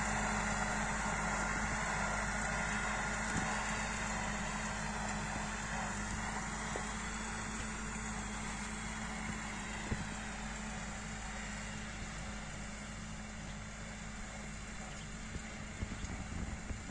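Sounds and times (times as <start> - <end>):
distant tractor diesel engine: 0.0 - 16.9.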